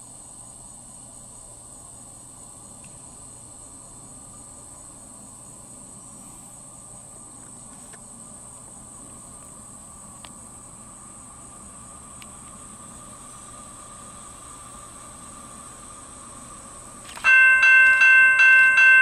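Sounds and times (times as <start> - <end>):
high-pitched insect drone: 0.0 - 19.0
low steady hum: 0.0 - 19.0.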